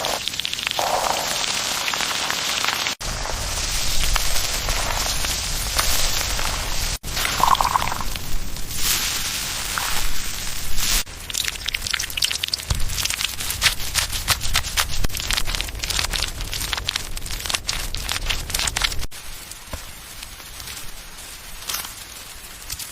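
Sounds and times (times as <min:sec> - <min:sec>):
raindrops ticking on surface: 0:00.0 - 0:08.3, 0:11.0 - 0:22.9
rain hissing: 0:00.0 - 0:22.7.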